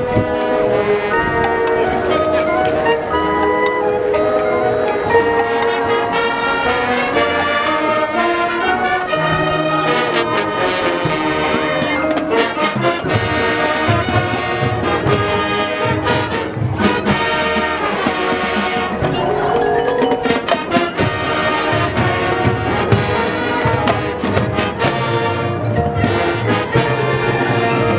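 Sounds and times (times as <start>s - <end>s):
brass playing tune: 0.0s - 27.9s
mallet percussion: 0.0s - 27.9s.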